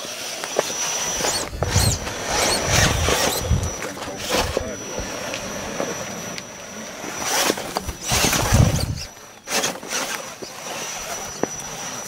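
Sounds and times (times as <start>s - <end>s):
electric motor whirring: 0.0s - 12.0s
tyres scraping against rock: 0.3s - 6.2s, 7.0s - 12.0s.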